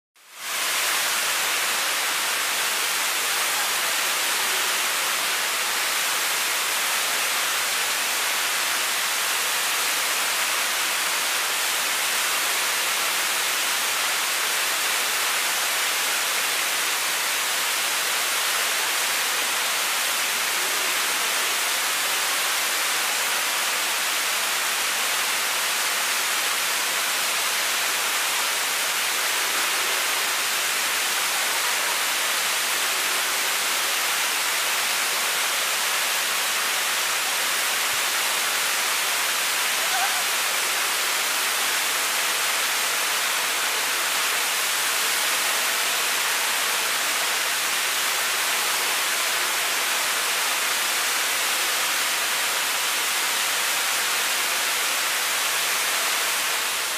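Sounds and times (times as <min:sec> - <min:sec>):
waterfall rushing: 0:00.3 - 0:56.9.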